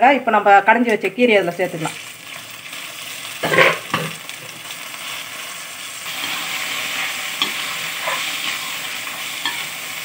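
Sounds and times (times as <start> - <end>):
hot oil sizzling: 0.7 - 10.0.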